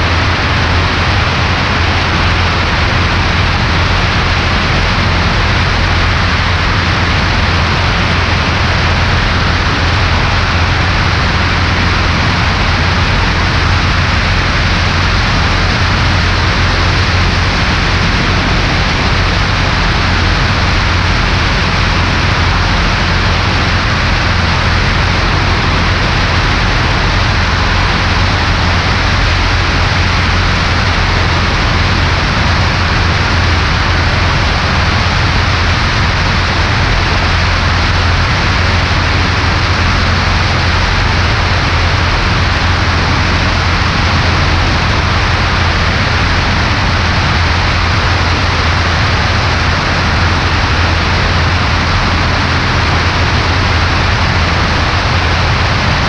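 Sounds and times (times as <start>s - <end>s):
airplane engine droning: 0.0s - 56.0s
rushing air noise: 0.0s - 56.0s.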